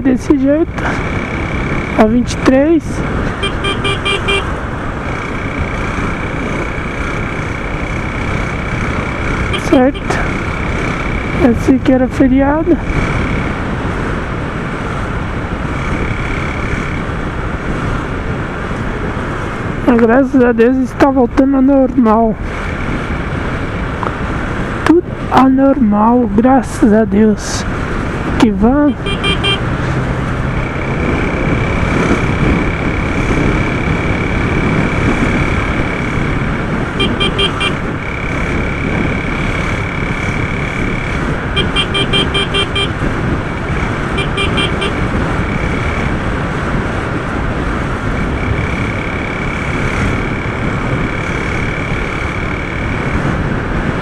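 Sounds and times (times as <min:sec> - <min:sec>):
steady high whine: 0:00.0 - 0:17.7, 0:28.4 - 0:54.0
motorcycle engine: 0:00.0 - 0:54.0
passing traffic: 0:00.0 - 0:54.0
wind rush: 0:00.0 - 0:54.0.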